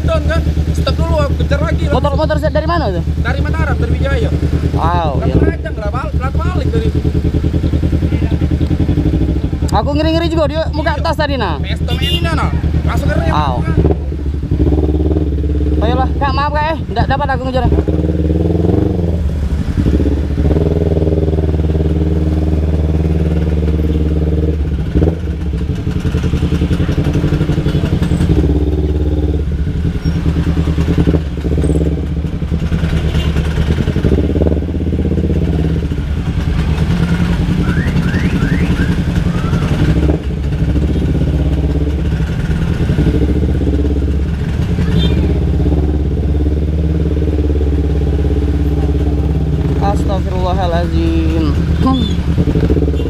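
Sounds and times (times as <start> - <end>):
motorcycle engine idling: 0.0 - 53.0
other motorcycle engines running: 0.0 - 53.0.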